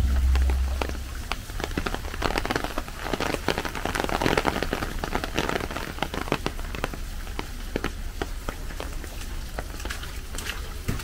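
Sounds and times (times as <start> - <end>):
rain falling: 0.0 - 11.0
raindrops striking close by: 0.0 - 11.0.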